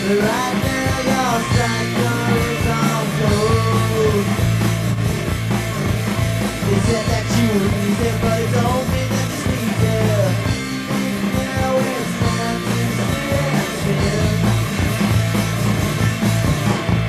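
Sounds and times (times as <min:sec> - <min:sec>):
drums playing: 0:00.0 - 0:17.0
electric guitar: 0:00.0 - 0:17.0.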